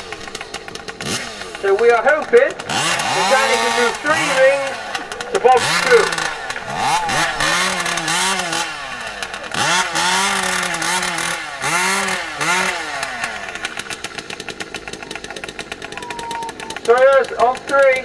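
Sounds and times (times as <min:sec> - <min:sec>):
chainsaw engines revving: 0:00.0 - 0:18.0.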